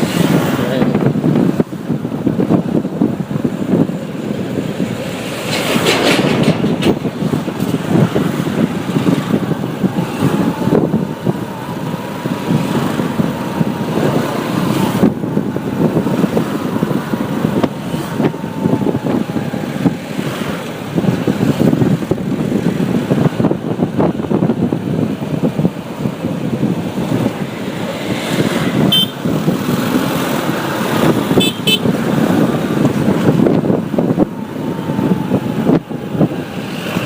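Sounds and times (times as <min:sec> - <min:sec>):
passing traffic: 0:00.0 - 0:37.0
wind buffeting on microphone: 0:00.0 - 0:37.0
motorbike engine: 0:02.2 - 0:37.0.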